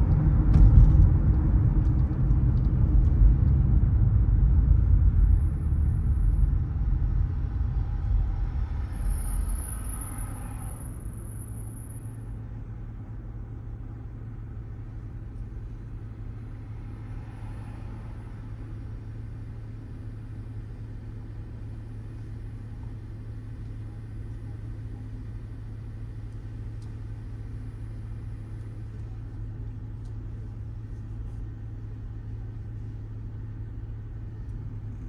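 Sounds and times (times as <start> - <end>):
car road and engine rumble: 0.0 - 35.0
engine hum: 0.0 - 35.0.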